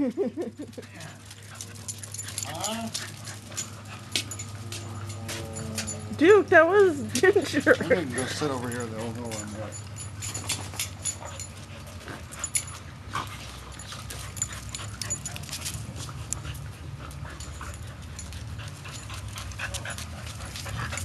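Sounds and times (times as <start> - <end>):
dog panting: 0.8 - 6.0, 6.8 - 21.0.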